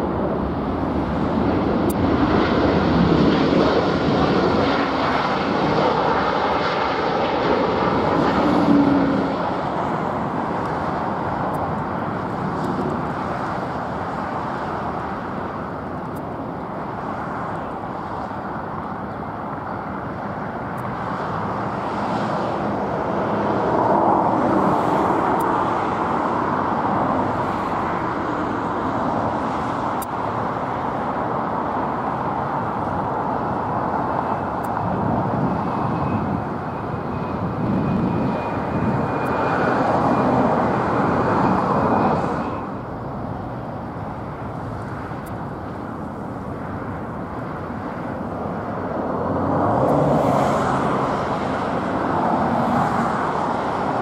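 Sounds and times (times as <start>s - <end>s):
high engine whine: 0.0s - 54.0s
jet airliner engine rush: 0.0s - 54.0s.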